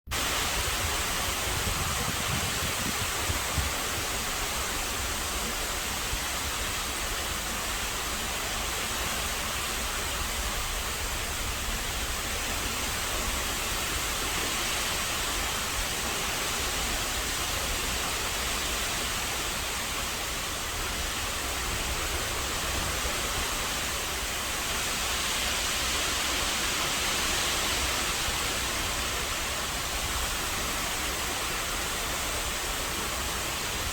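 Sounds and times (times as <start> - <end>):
rain pouring: 0.1 - 33.9.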